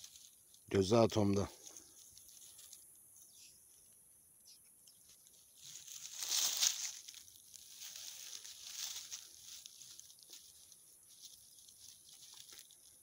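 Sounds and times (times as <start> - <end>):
dry leaves rustling and crackling: 0.0 - 2.8, 5.0 - 13.0.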